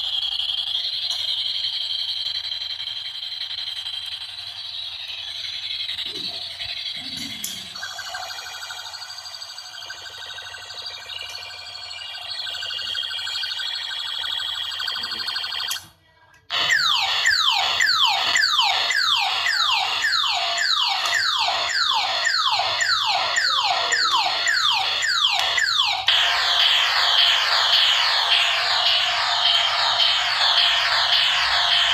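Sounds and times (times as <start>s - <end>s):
toy gun buzzing tone: 0.0s - 15.9s, 16.5s - 31.9s
laser-style zaps: 0.1s - 13.5s, 16.5s - 31.9s.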